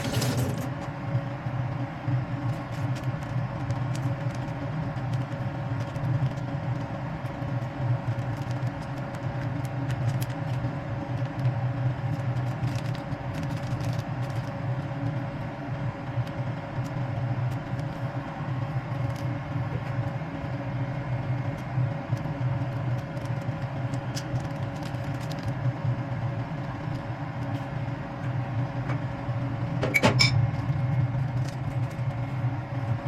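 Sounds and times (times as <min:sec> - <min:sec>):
low rumble with hum: 0:00.0 - 0:33.0.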